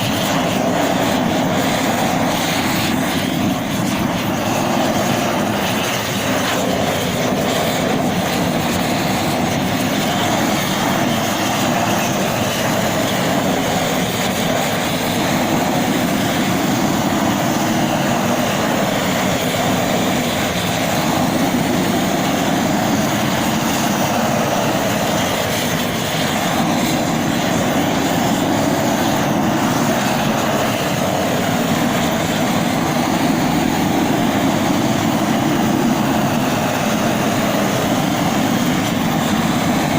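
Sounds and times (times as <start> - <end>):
roofing torch burning: 0.0 - 39.9.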